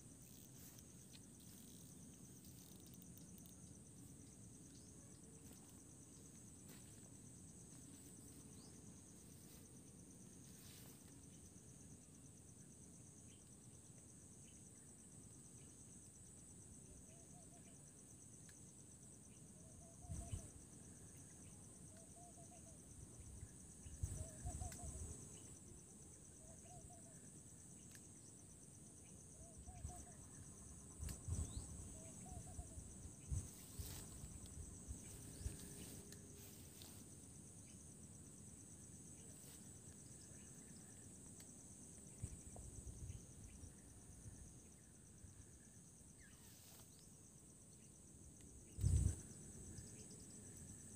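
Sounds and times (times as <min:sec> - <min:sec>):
crickets trilling: 0:00.0 - 0:50.9.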